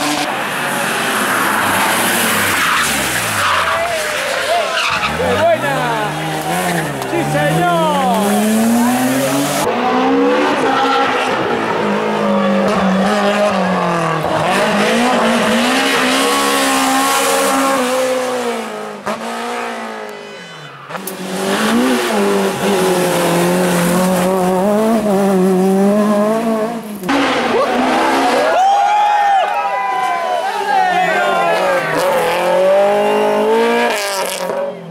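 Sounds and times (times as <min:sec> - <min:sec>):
rally car engine at full throttle: 0:00.0 - 0:28.8, 0:30.8 - 0:34.9.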